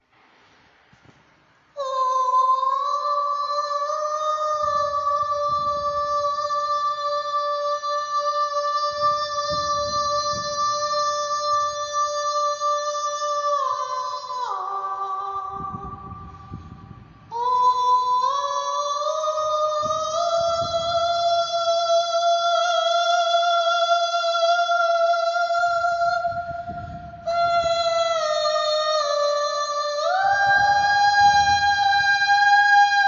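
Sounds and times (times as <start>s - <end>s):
person singing a long high note: 1.7s - 33.0s.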